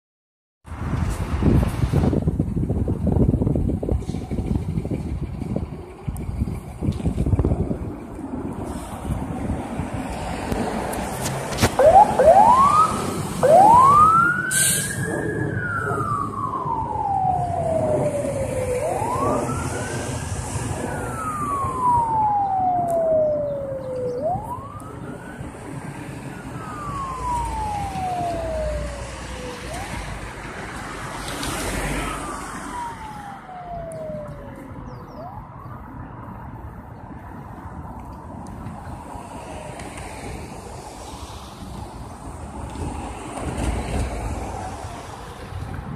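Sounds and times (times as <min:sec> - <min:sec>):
fire engine siren: 0:06.5 - 0:36.6, 0:38.0 - 0:45.8.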